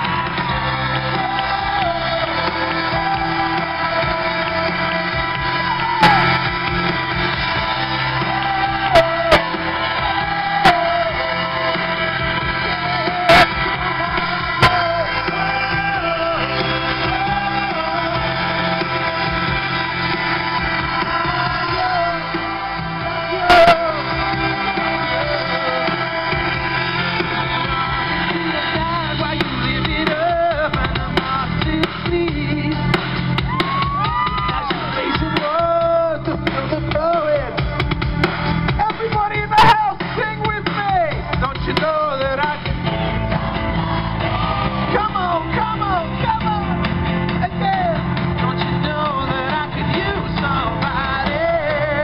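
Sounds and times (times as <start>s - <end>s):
man singing: 0.0s - 33.0s, 34.0s - 37.8s, 38.7s - 42.9s, 44.9s - 52.0s
live rock band: 0.0s - 52.0s.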